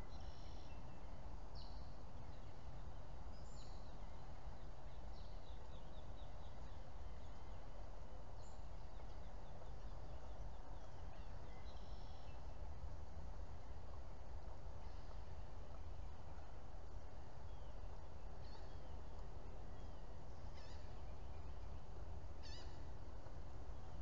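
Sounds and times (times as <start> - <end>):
small birds chirping: 0.0 - 12.7, 14.6 - 24.0
low outdoor background rumble: 0.0 - 24.0.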